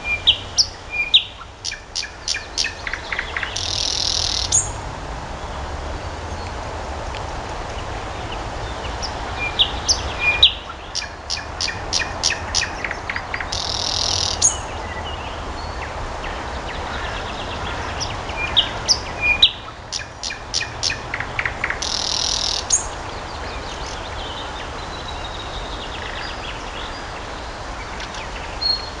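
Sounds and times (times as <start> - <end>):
background hiss: 0.0 - 29.0
songbirds singing: 0.0 - 29.0.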